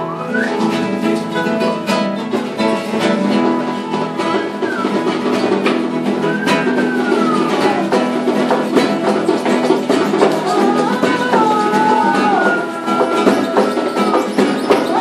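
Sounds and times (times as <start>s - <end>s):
acoustic guitars playing: 0.0s - 15.0s
gliding high tones: 0.0s - 15.0s.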